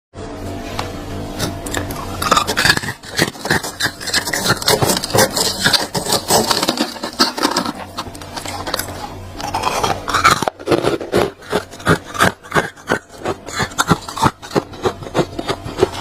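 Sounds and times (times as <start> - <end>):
scraping crunchy freezer frost: 1.3 - 16.0.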